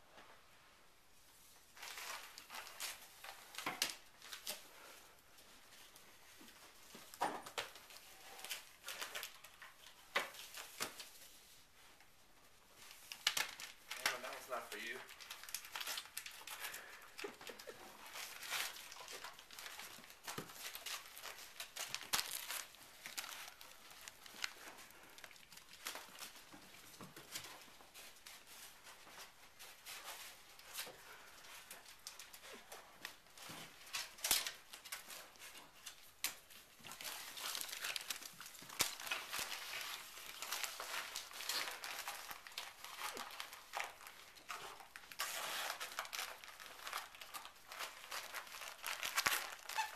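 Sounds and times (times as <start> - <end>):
wrapping paper crinkling and tearing: 1.3 - 49.9.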